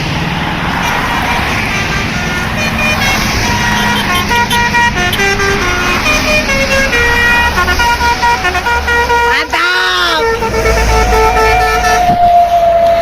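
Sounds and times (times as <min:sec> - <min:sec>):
bus engine running: 0:00.0 - 0:13.0
multi-tone bus horn melody: 0:01.6 - 0:13.0.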